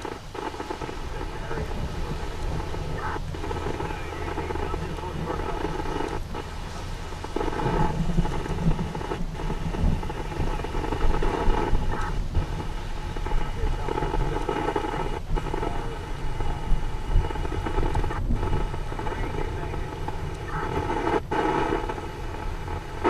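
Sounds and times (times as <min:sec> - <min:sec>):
heavy rain: 0:00.0 - 0:23.0
low thunder rumble: 0:00.0 - 0:23.0
wind: 0:00.0 - 0:23.0.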